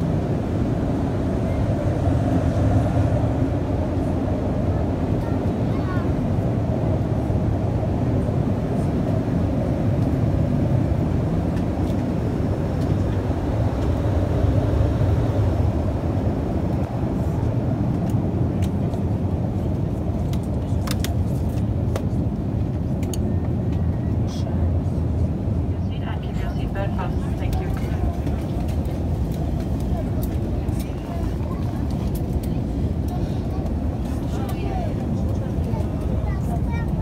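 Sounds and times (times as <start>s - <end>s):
aircraft cabin noise: 0.0s - 37.0s.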